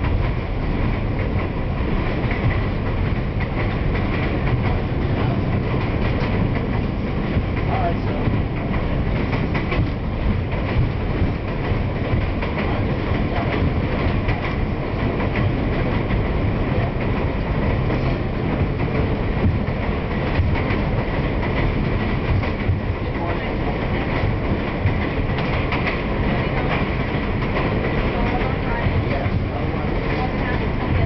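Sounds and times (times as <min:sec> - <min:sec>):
subway train wheels on rails: 0:00.0 - 0:31.0.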